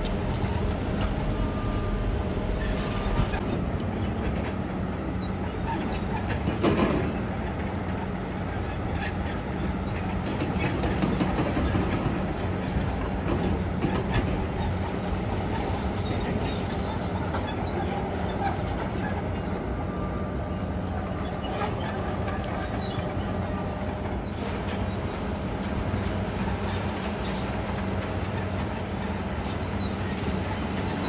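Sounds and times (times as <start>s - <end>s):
bulldozer clanking and rattling: 0.0s - 31.0s
diesel engine running: 0.0s - 31.0s.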